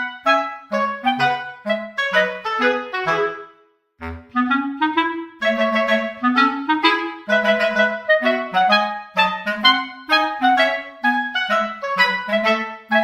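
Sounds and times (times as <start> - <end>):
woodwind melody of short notes: 0.0 - 13.0.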